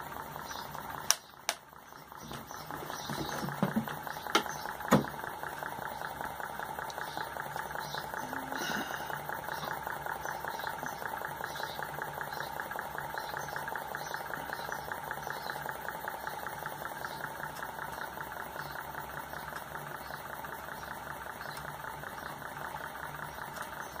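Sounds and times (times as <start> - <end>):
model engine clattering: 0.0 - 8.5, 9.1 - 24.0
low hum: 0.0 - 24.0.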